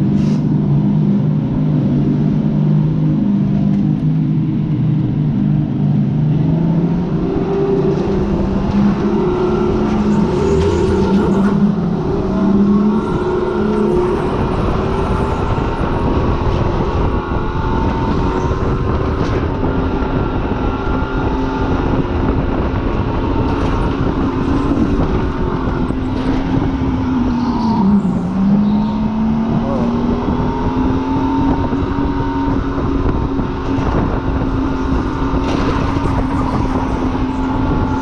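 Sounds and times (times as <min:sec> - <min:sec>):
car engine pulling hard: 0:00.0 - 0:38.0
road and wind noise: 0:00.0 - 0:38.0.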